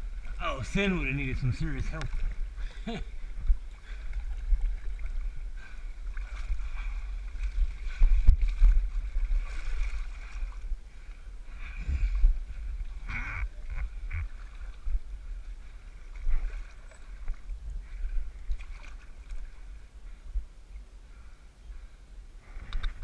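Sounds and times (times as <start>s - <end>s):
water sloshing and lapping: 0.0s - 20.9s, 22.4s - 23.0s.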